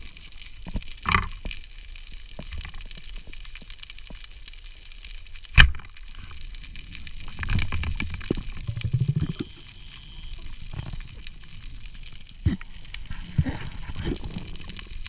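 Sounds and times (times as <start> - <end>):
underwater water noise: 0.0 - 15.0.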